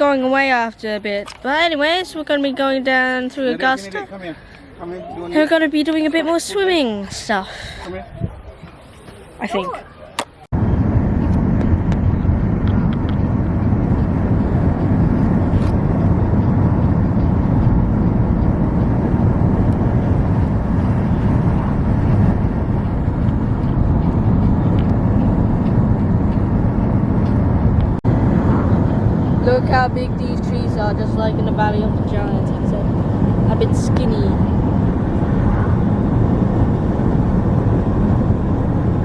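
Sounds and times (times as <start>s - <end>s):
car driving on road: 7.7s - 39.0s.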